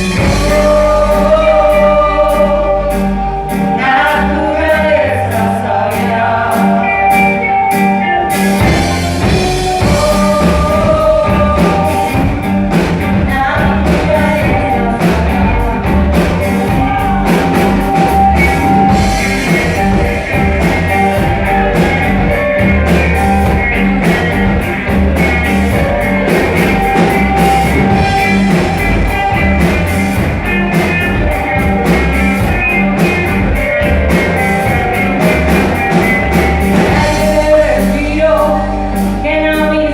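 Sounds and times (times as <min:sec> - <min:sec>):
rock song with guitar and singing: 0:00.0 - 0:39.9.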